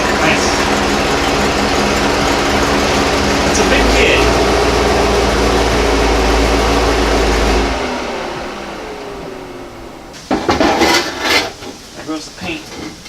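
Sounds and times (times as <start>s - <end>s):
falling whine of engine: 0.0s - 11.2s
vehicle engine running: 0.0s - 11.3s.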